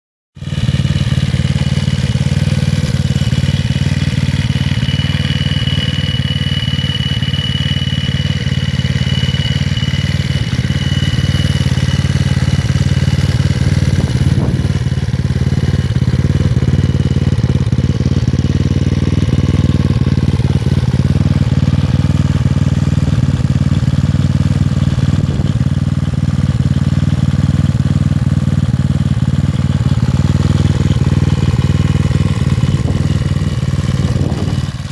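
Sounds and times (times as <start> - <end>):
scooter engine idling: 0.4 - 34.9.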